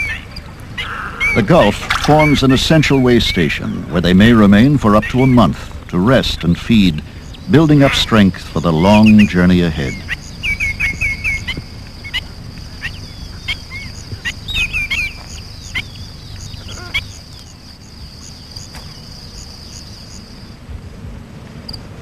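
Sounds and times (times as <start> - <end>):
birds chirping: 0.0 - 20.7.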